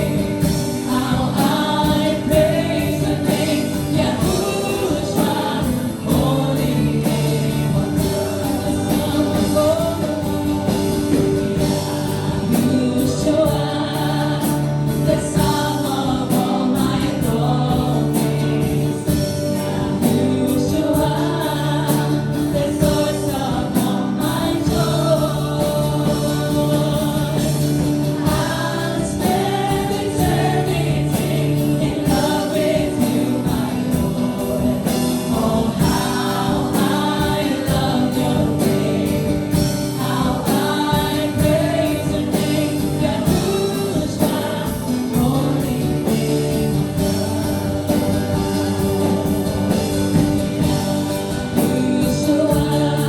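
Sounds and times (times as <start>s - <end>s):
band with steady beat: 0.0s - 53.0s
group singing in unison: 0.0s - 53.0s.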